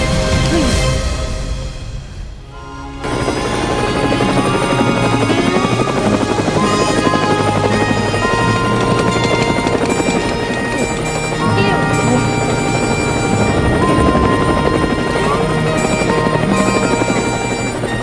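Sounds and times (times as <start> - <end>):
background music: 0.0 - 18.0
helicopter rotor blades chopping: 2.8 - 18.0.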